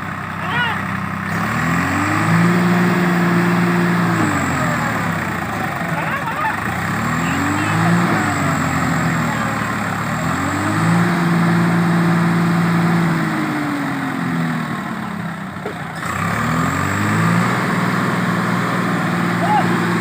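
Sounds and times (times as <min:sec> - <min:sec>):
tractor diesel engine revving: 0:00.0 - 0:20.0.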